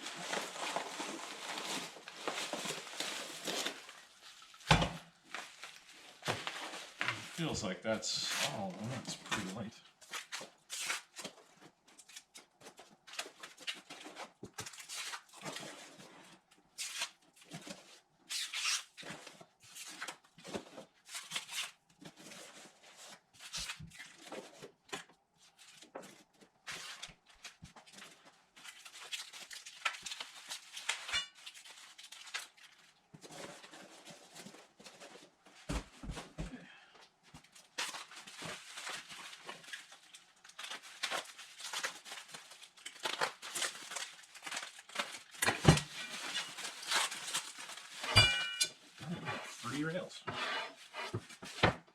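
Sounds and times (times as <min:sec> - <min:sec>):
packing material rustling and tearing: 0:00.0 - 0:35.8, 0:37.1 - 0:50.1, 0:50.7 - 0:51.9.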